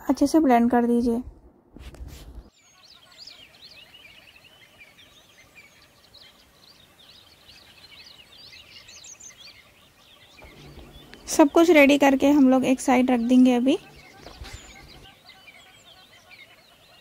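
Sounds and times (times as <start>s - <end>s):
small birds chirping: 2.5s - 17.0s.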